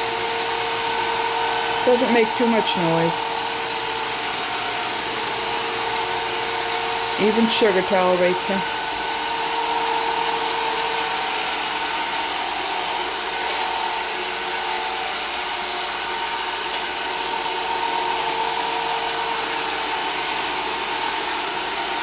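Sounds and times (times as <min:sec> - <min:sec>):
robot vacuum whirring: 0:00.1 - 0:22.0.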